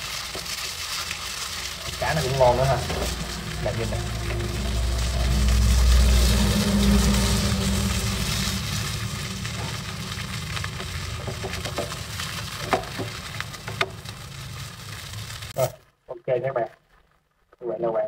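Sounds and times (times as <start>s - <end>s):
fish sizzling in oil: 0.0s - 15.6s
low rumble: 0.4s - 15.5s.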